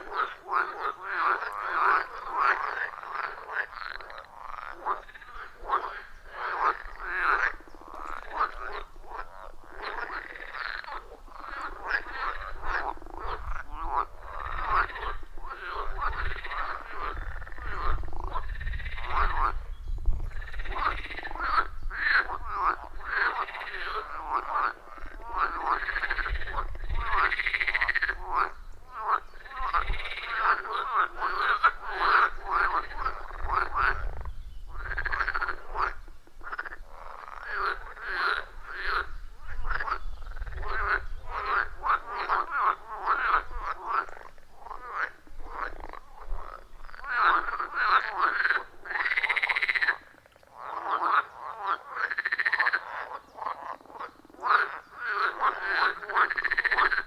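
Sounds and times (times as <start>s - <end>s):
frogs croaking in chorus: 0.0s - 57.0s.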